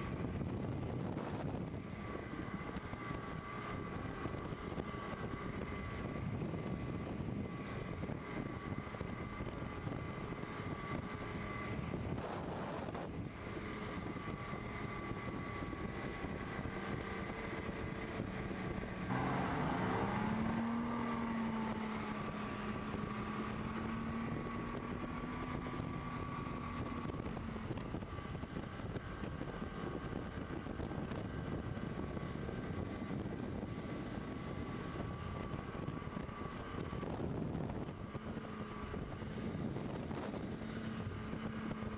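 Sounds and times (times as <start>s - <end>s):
wind on microphone: 0.0s - 41.9s
outboard motor running: 0.1s - 41.9s.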